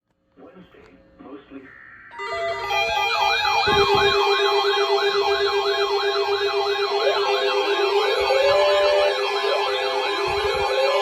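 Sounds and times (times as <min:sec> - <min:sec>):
electronic siren yelp: 0:01.7 - 0:11.0
rising siren wail: 0:02.1 - 0:11.0.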